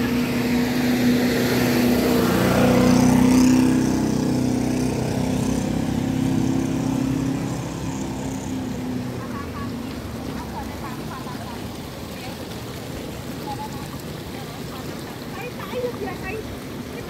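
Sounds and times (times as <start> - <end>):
vehicle engines passing by: 0.0 - 17.0.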